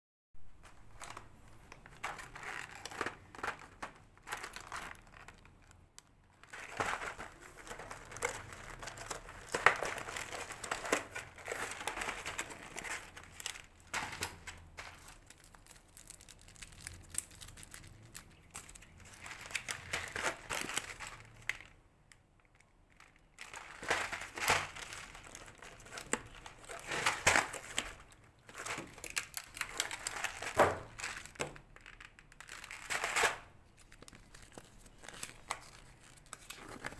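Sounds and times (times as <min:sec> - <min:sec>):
plastic wrapping crinkling: 0:00.6 - 0:21.8, 0:22.4 - 0:36.9.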